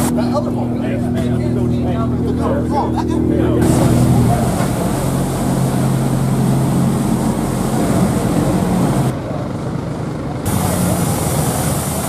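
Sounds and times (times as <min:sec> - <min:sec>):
buggy engine running: 0:00.0 - 0:12.0.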